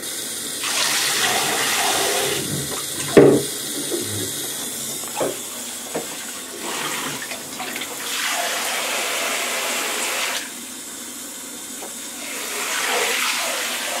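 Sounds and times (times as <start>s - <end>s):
shower water spraying into bath: 0.0s - 14.0s.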